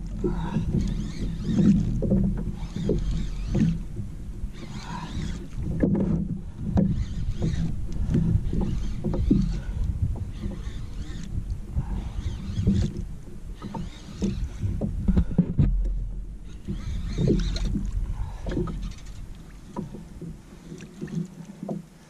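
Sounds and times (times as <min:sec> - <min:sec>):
wind rumble on microphone: 0:00.0 - 0:20.6
water slapping kayak hull: 0:00.0 - 0:22.0.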